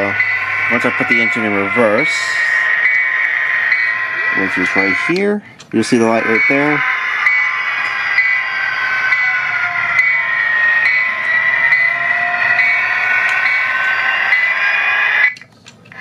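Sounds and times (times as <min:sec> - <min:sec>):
model train diesel engine sound: 0:00.0 - 0:16.0.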